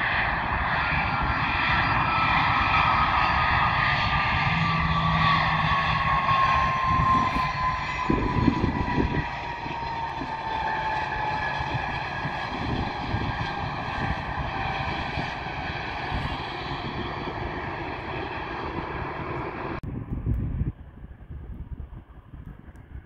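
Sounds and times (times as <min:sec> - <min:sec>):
jet engine whine: 0:00.0 - 0:23.0
wind rumbling on microphone: 0:00.0 - 0:23.0.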